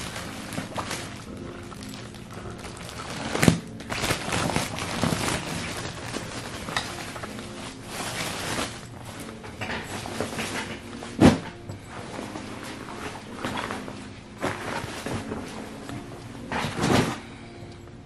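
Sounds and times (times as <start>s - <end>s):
plastic bag crinkling: 0.0s - 17.7s.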